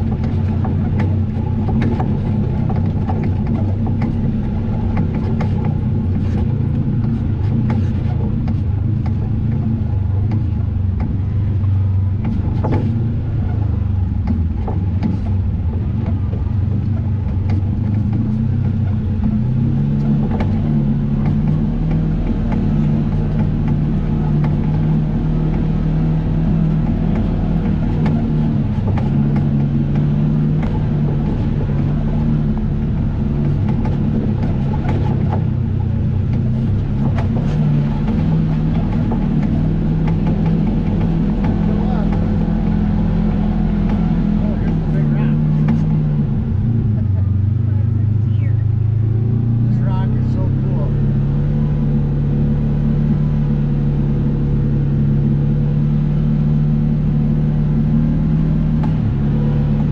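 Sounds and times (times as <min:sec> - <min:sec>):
knocks and rattles: 0:00.0 - 0:54.3
vehicle engine running: 0:00.0 - 0:59.9.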